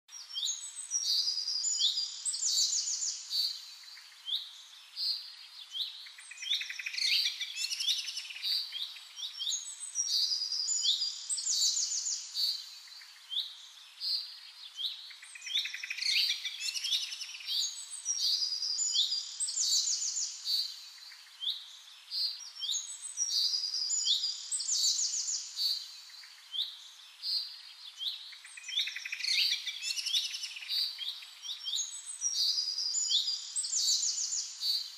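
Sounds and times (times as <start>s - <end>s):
birds chirping and singing: 0.2s - 34.9s.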